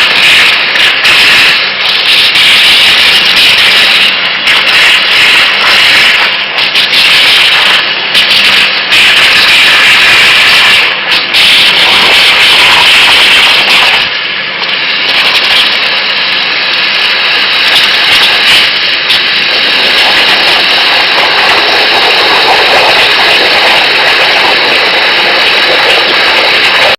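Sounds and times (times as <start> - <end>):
waterjet cutter hissing: 0.0 - 26.9.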